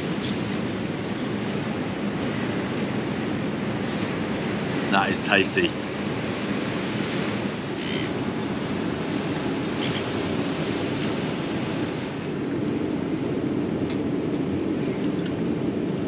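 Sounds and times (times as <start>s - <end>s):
ocean surf breaking: 0.0s - 13.8s
wind noise: 0.0s - 16.0s.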